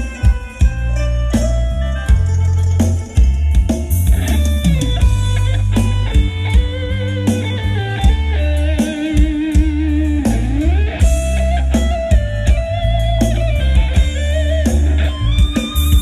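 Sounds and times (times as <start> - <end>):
drum hits: 0.0 - 16.0
heavy bass: 0.0 - 16.0
lead electric guitar: 0.0 - 16.0.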